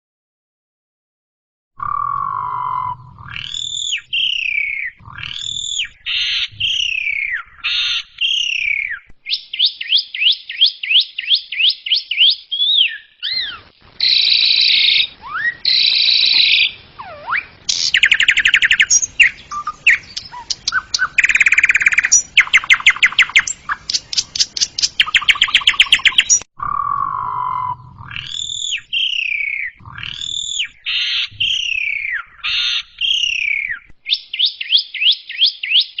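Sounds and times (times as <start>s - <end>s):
starling singing: 1.8s - 35.8s.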